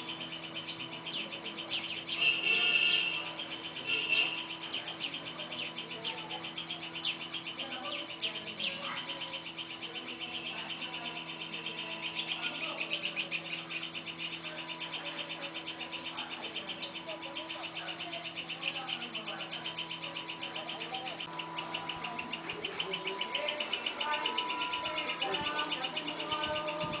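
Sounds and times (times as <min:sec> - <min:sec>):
baby bird chirping: 0:00.0 - 0:27.0.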